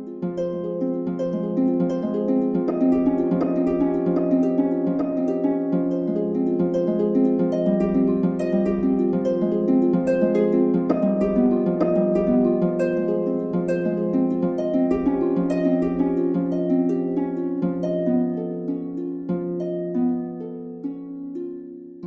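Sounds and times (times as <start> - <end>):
plucked string music: 0.0 - 22.0.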